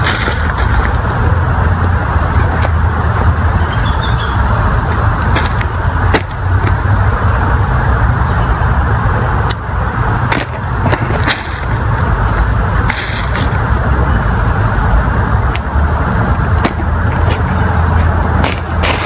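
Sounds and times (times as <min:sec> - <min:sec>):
insect chirping: 0:00.0 - 0:19.0
low outdoor rumble: 0:00.0 - 0:19.0.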